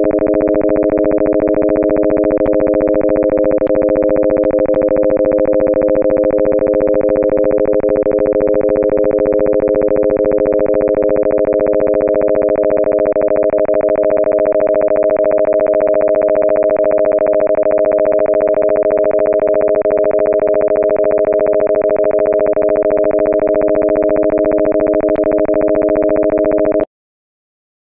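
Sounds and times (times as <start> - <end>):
synthesised sine tone: 0.0 - 26.9.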